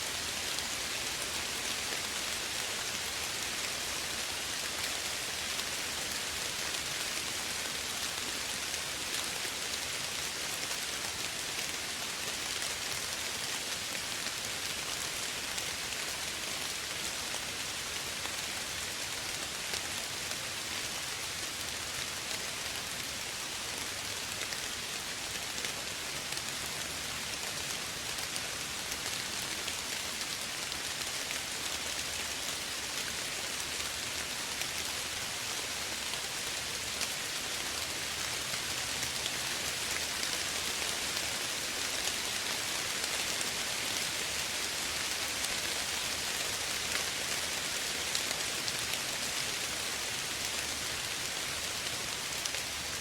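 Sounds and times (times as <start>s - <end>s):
soft rain falling: 0.0s - 53.0s.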